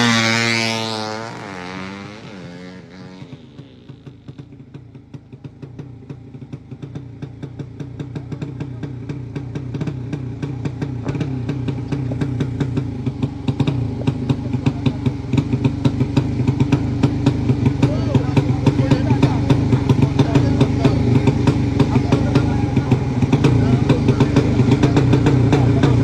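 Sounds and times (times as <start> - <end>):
motorcycle engine idling low: 0.0 - 26.0.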